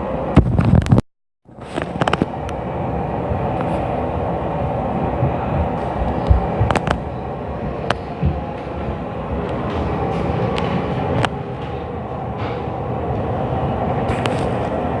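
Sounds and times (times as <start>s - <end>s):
plumbing rumble: 1.6s - 15.0s.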